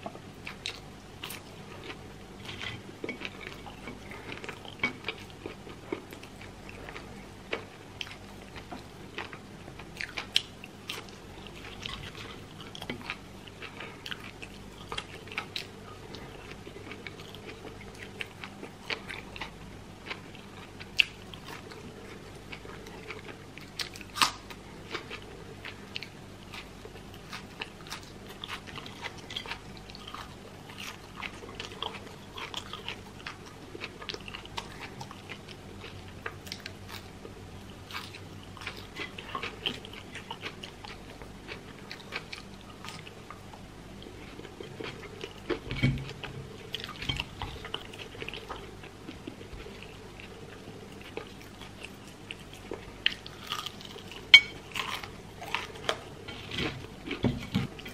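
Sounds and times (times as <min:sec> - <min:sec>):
crunching and chewing: 0:00.0 - 0:57.9.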